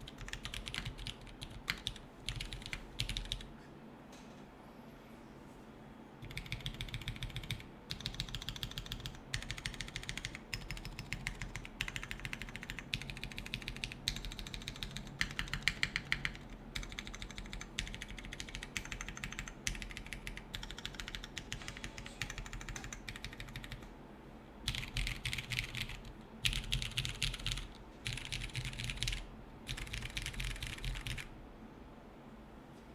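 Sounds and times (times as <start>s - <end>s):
typing on mechanical keyboard: 0.0s - 3.5s, 6.2s - 23.9s, 24.7s - 31.3s.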